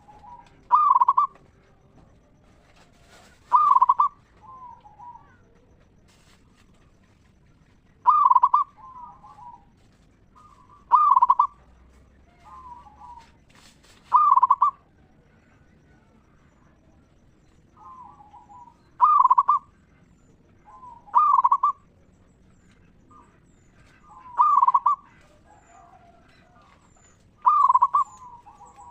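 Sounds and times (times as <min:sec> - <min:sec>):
dove cooing: 0:00.0 - 0:28.9.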